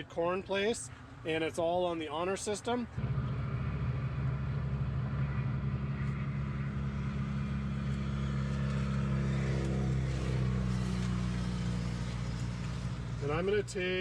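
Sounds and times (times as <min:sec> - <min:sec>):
vehicle engine humming: 0:02.7 - 0:14.0.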